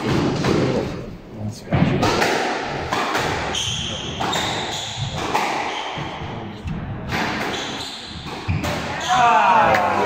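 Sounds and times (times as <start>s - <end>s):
squash ball strikes: 0.0s - 0.9s, 1.7s - 10.0s.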